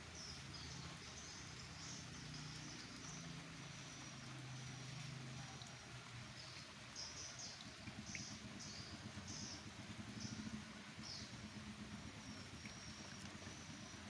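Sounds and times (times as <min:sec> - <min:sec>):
faint rain falling: 0:00.0 - 0:14.0.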